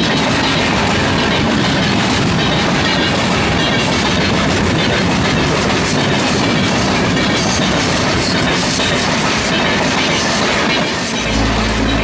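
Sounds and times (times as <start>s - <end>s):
train passing at speed: 0.0s - 12.0s
wheels clattering over rail joints: 0.0s - 12.0s.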